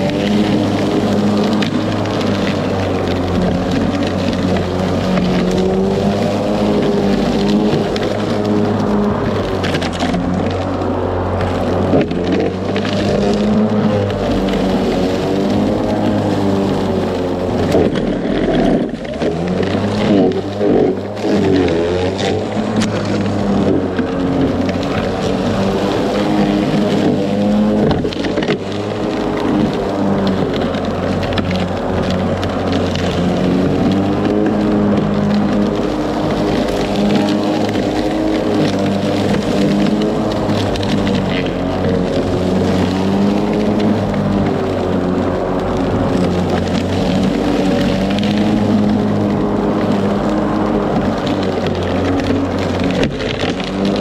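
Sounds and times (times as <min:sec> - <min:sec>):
electric lawn mower humming: 0:00.0 - 0:54.0.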